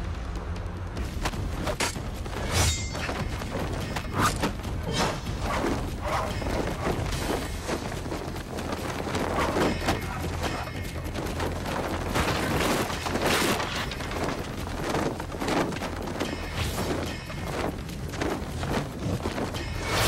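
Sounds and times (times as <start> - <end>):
film musical score: 0.0 - 20.0.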